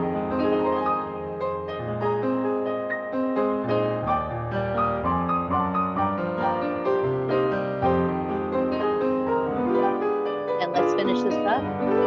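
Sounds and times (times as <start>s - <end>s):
solo piano playing: 0.0s - 12.0s.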